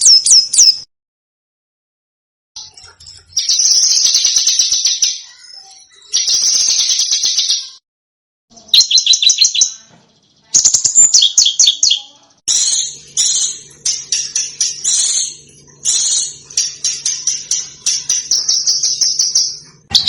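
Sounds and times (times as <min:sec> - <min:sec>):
songbirds singing: 0:02.6 - 0:07.8, 0:08.5 - 0:20.0.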